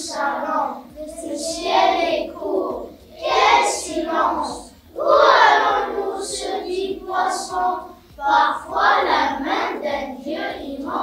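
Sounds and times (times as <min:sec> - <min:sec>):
children reciting in unison: 0:00.0 - 0:11.0.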